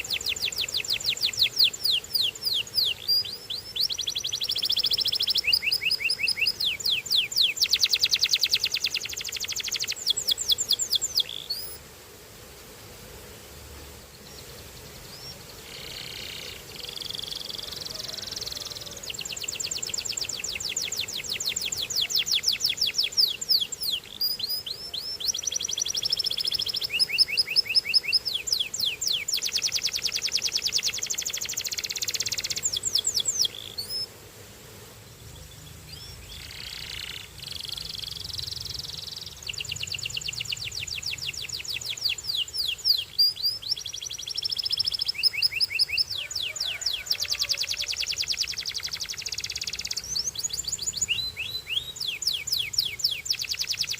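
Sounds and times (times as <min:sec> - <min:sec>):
canary singing rapid trills: 0:00.0 - 0:11.8, 0:14.3 - 0:34.1, 0:35.9 - 0:53.9.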